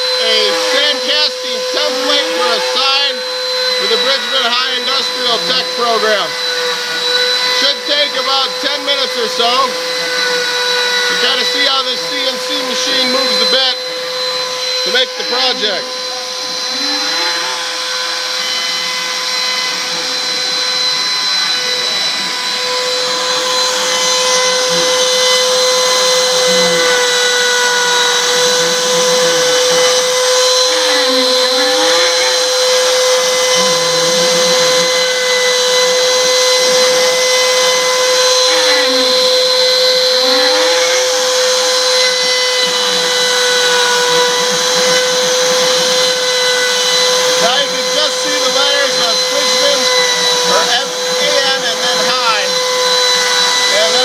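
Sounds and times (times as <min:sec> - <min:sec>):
motor whirs: 0:00.0 - 0:54.0
router spindle whining: 0:00.0 - 0:54.0.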